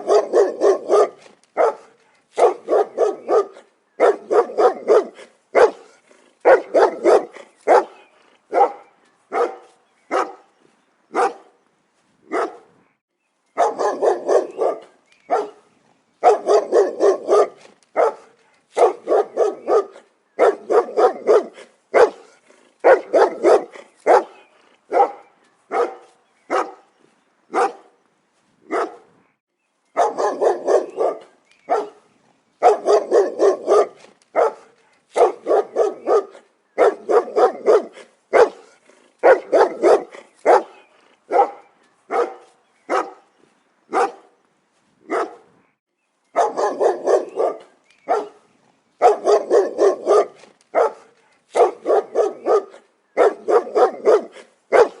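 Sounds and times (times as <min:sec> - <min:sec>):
dog barking: 0:00.0 - 0:10.5, 0:11.1 - 0:11.6, 0:12.3 - 0:12.7, 0:13.6 - 0:15.6, 0:16.2 - 0:26.9, 0:27.5 - 0:28.0, 0:28.7 - 0:29.1, 0:30.0 - 0:32.0, 0:32.6 - 0:43.3, 0:43.9 - 0:44.4, 0:45.1 - 0:45.5, 0:46.4 - 0:55.0.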